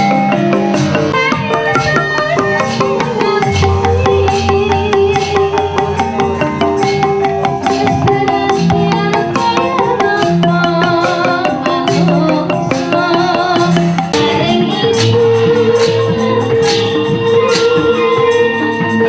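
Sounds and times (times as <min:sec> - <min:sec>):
gamelan ensemble playing: 0:00.0 - 0:19.0.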